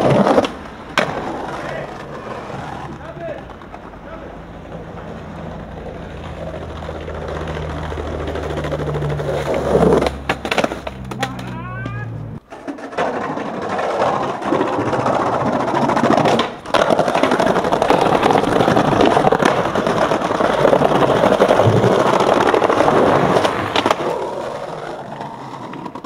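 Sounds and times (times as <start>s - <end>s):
skateboard clack: 0.0s - 26.0s
skateboard wheels rolling on tiles: 0.0s - 26.0s.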